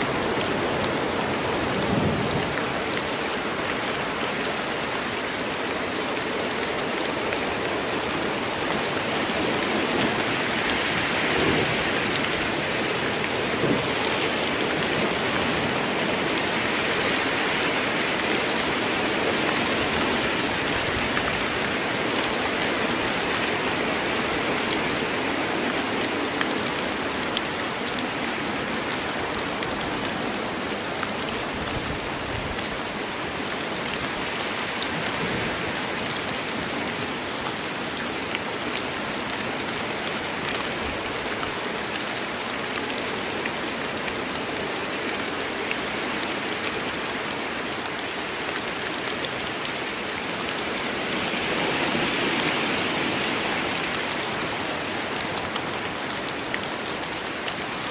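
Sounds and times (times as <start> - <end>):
heavy rain on leaves: 0.0 - 57.9.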